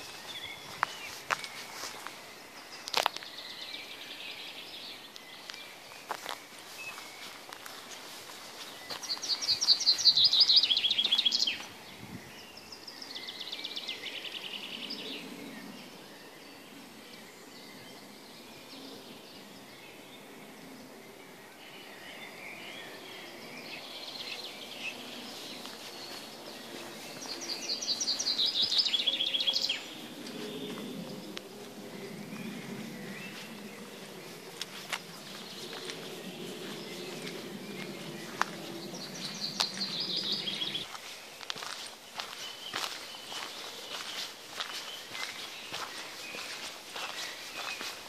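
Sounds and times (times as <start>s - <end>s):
songbird singing rapid notes: 0.0s - 20.3s, 21.1s - 48.0s
quiet bird song: 0.0s - 48.0s.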